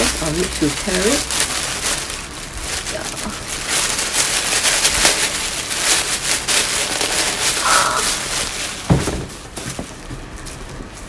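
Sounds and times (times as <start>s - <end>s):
tissue paper crinkling: 0.0s - 11.0s.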